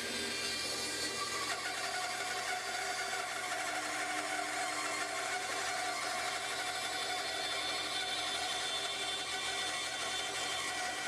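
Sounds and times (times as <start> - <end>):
bandsaw cutting log: 0.0 - 11.0
steady saw tone: 0.0 - 11.0.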